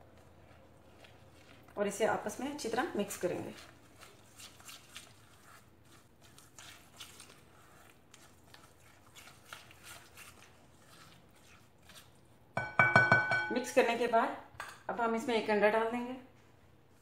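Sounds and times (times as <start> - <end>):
soft scraping and squishing in bowl: 0.0 - 14.0.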